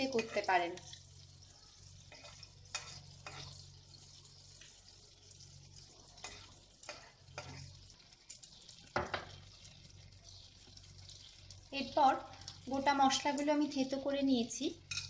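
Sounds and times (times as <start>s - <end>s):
butter sizzling in a wok: 0.0s - 15.0s.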